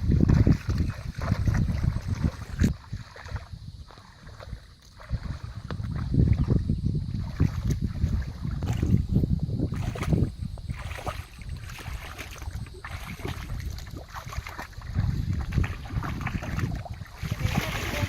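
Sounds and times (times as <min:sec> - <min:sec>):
water sloshing and lapping: 0:00.0 - 0:18.0
wind rumbling on microphone: 0:00.0 - 0:18.0.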